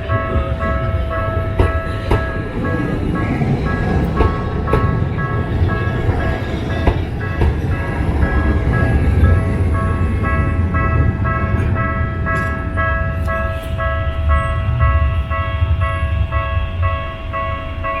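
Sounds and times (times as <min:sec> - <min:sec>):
level crossing bell ringing: 0:00.0 - 0:18.0
passing tram rumble: 0:00.0 - 0:18.0
traffic: 0:00.0 - 0:18.0.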